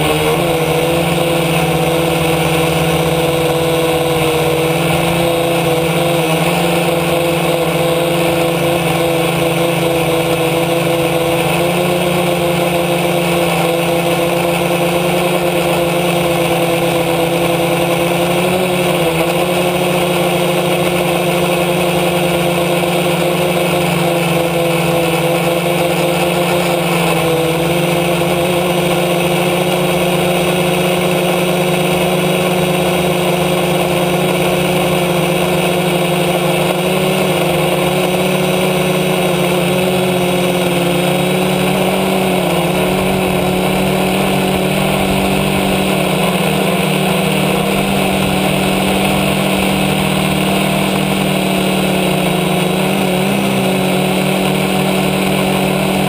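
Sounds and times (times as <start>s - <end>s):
drone motors droning: 0.0s - 56.0s.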